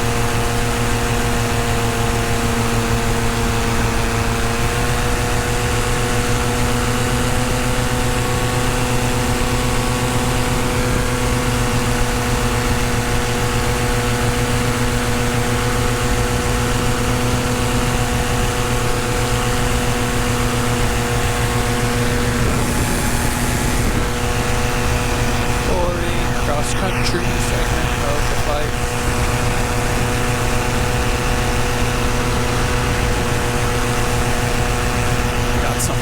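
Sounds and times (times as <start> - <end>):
paramotor engine and propeller: 0.0 - 36.0.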